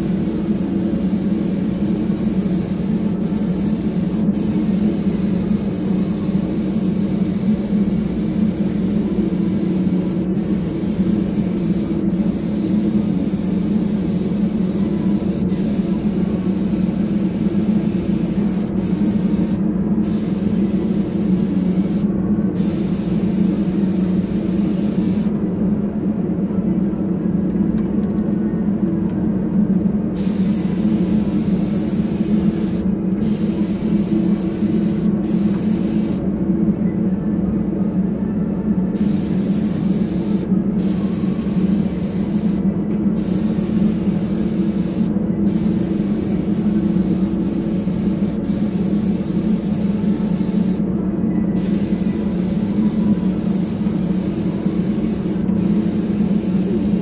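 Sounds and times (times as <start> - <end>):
spray gun hissing: 0.0 - 25.3, 30.2 - 36.2, 39.0 - 42.6, 43.2 - 50.8, 51.6 - 57.0
low machine hum: 0.0 - 57.0.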